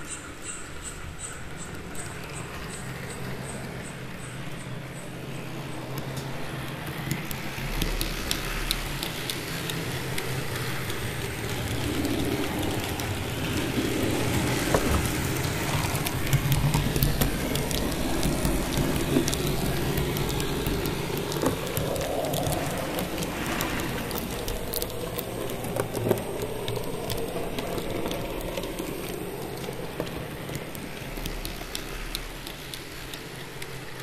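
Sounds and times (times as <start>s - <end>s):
model train wheels clicking on rails: 0.0s - 34.0s.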